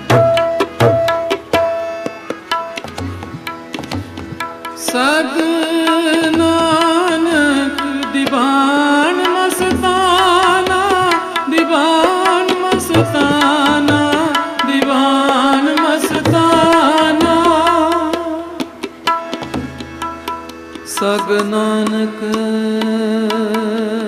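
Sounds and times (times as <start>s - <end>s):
tabla strokes: 0.0s - 24.0s.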